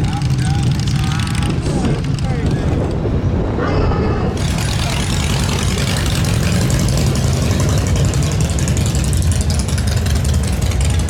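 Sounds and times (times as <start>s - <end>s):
motorcycle engines idling: 0.0s - 3.0s, 4.4s - 11.0s.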